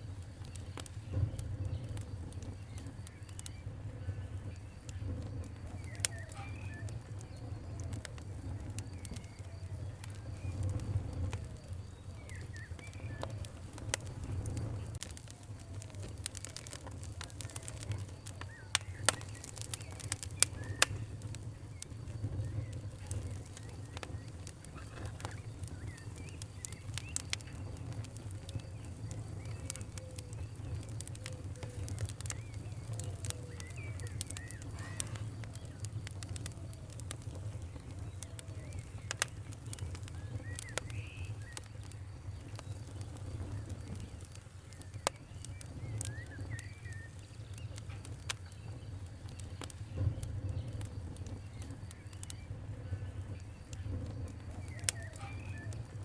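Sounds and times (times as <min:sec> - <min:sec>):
steady low rumble: 0:00.0 - 0:56.0
wood fire crackling and popping: 0:00.0 - 0:56.0
faint bird chirps: 0:00.1 - 0:56.0.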